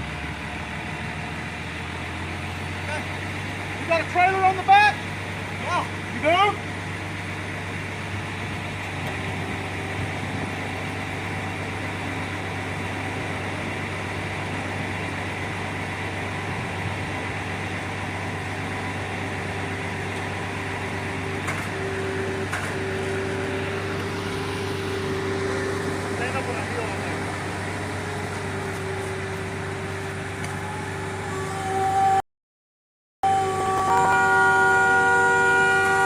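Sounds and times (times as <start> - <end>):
steady loud whine: 0.0 - 32.2, 33.2 - 36.0
vehicle engine humming: 0.0 - 32.2, 33.2 - 36.0.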